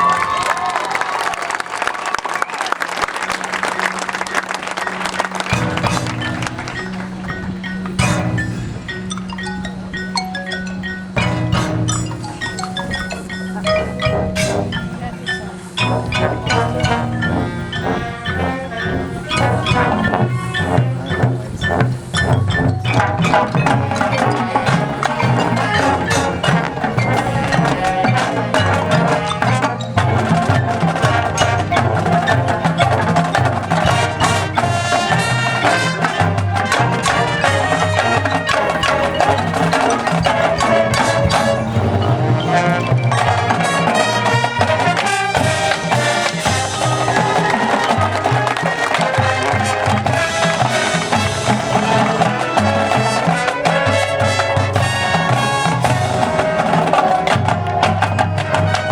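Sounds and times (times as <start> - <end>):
marching band playing: 0.0 - 58.9
drums and mallet percussion: 3.2 - 58.9.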